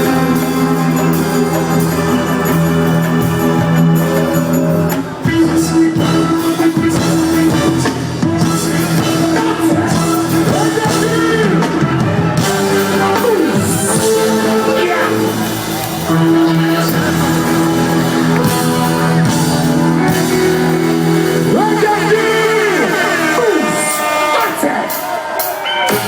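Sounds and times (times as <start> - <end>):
live reggae band playing: 0.0 - 26.0.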